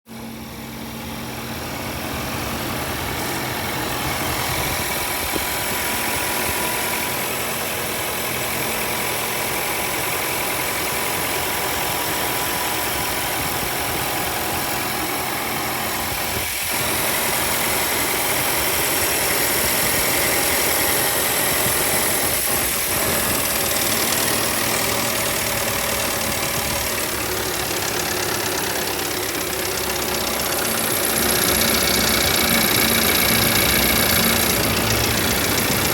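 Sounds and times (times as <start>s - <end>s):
car engine idling: 0.1s - 35.9s
engine rattle: 0.1s - 35.9s.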